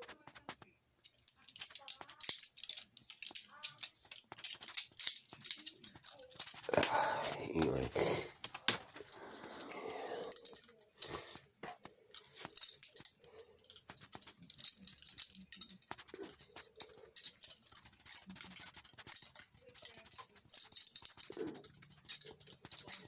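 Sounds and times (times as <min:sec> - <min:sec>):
metallic clicks and rattles: 0:01.0 - 0:07.4, 0:08.3 - 0:23.0.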